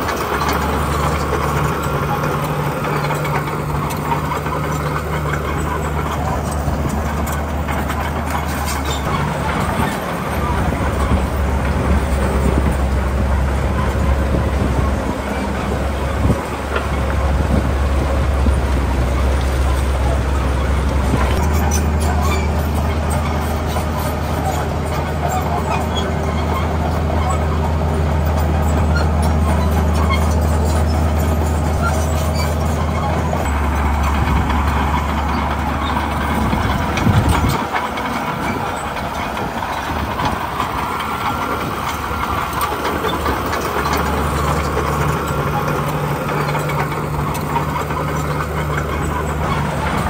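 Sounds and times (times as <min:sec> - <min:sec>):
heavy diesel engines running: 0:00.0 - 0:50.0.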